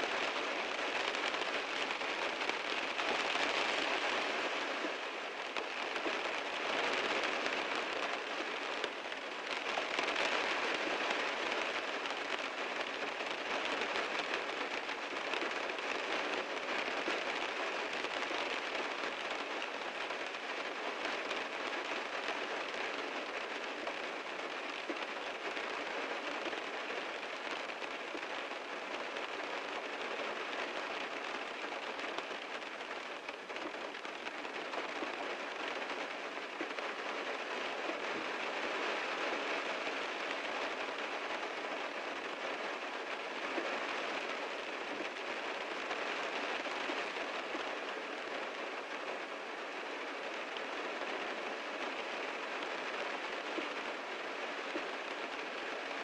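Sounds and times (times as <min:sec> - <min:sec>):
heavy rain drumming on car roof: 0:00.0 - 0:56.0.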